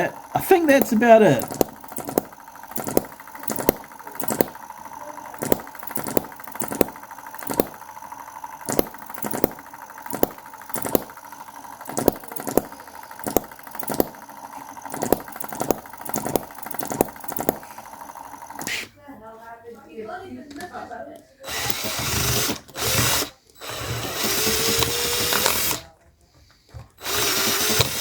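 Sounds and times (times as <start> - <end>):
engine mechanical running: 0.0 - 18.7, 21.5 - 25.8, 27.0 - 28.0.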